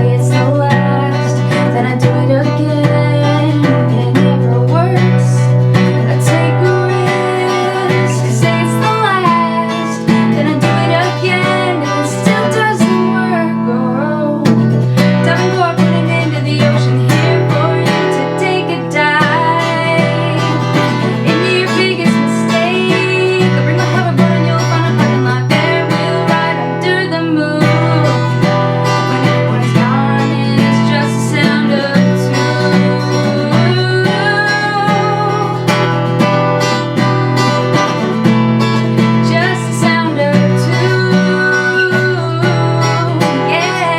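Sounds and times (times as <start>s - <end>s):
acoustic guitar strumming: 0.0s - 43.9s
woman singing: 0.0s - 43.9s.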